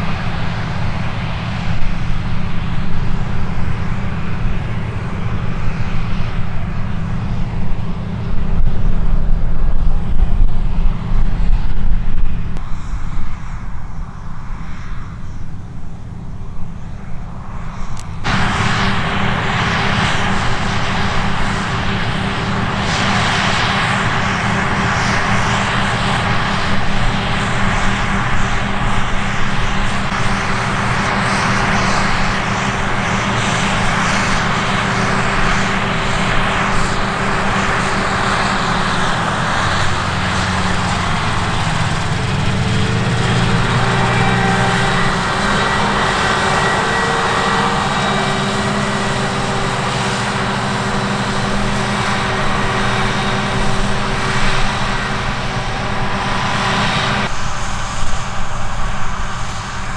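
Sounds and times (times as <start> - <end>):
diesel machinery rumbling: 0.0 - 13.2, 15.5 - 59.2
hissing machine with steady hum: 0.0 - 59.9.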